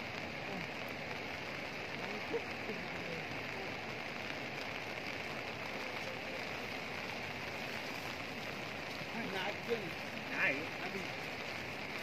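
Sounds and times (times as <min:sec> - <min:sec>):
outdoor ambience hiss: 0:00.0 - 0:12.0.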